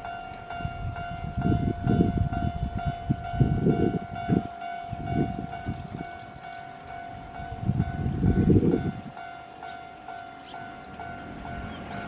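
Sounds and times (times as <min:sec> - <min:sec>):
level-crossing warning bell: 0:00.0 - 0:12.0
low rumbling gusts: 0:00.0 - 0:12.0.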